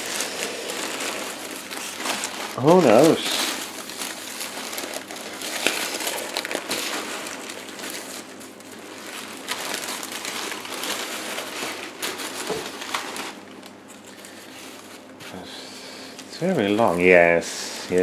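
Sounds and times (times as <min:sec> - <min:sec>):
packing paper crinkling: 0:00.0 - 0:18.0.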